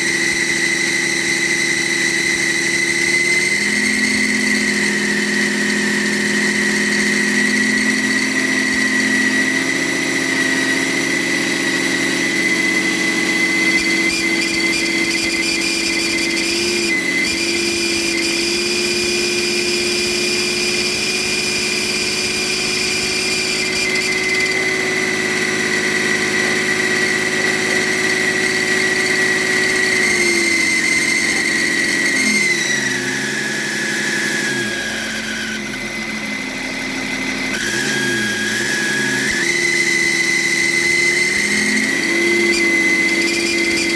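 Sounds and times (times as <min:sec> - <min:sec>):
turbocharger whistle: 0:00.0 - 0:43.9
diesel engine running: 0:03.4 - 0:42.1.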